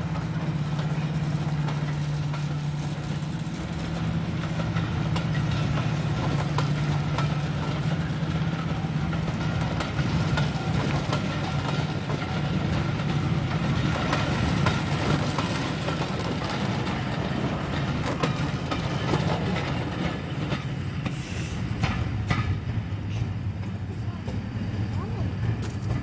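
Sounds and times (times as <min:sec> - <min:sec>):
low locomotive engine drone: 0:00.0 - 0:26.0
wheels clicking over rail joints: 0:00.0 - 0:26.0.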